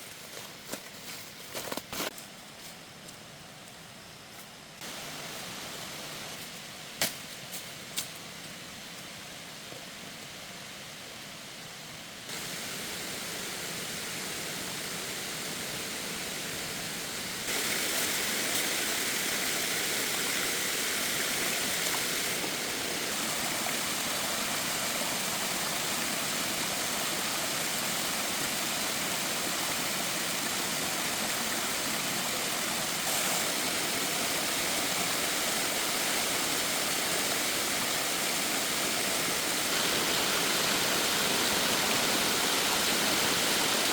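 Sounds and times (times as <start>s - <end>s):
rushing water: 4.8s - 6.4s, 8.8s - 43.9s.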